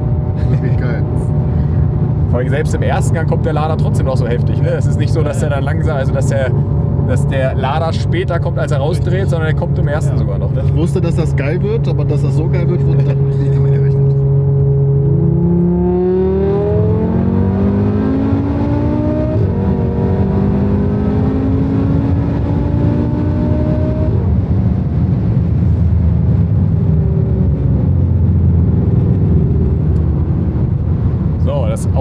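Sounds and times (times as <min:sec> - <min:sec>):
car engine at full throttle: 0:00.0 - 0:32.0
wind and tyre noise: 0:00.0 - 0:32.0.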